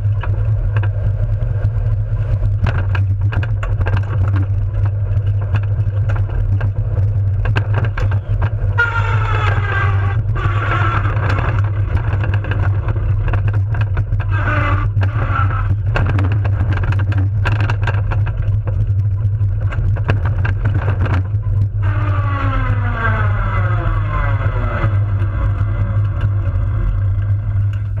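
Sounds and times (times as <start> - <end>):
wheels rumbling on asphalt: 0.0 - 28.0
whine falling in pitch: 0.0 - 28.0.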